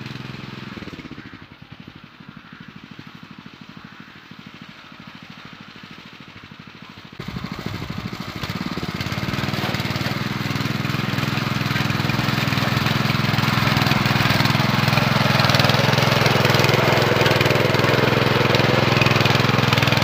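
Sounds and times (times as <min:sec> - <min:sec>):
tiller engine running under load: 0:00.0 - 0:20.0.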